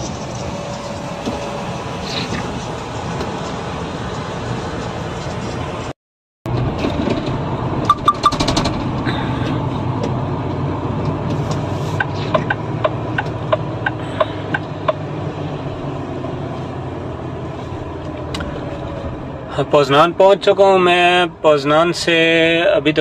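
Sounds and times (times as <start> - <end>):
truck engine and road noise: 0.0 - 23.0.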